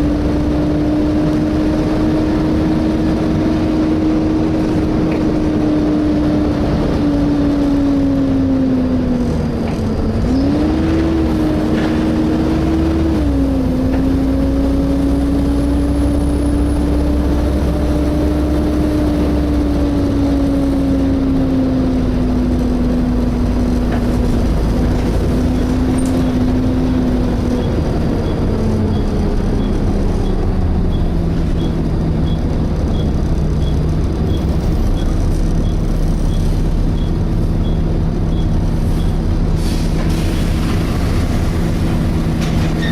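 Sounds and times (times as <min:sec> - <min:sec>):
diesel engine running low: 0:00.0 - 0:42.9.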